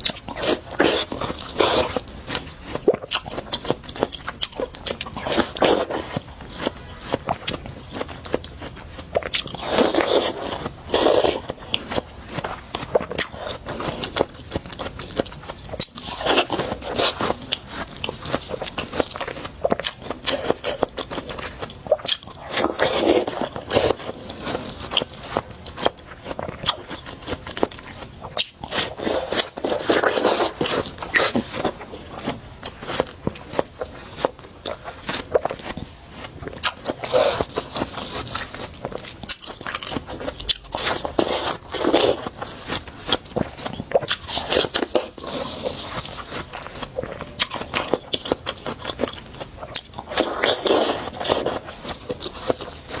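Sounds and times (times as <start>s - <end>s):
wet crunching of watermelon bites: 0.0s - 53.0s.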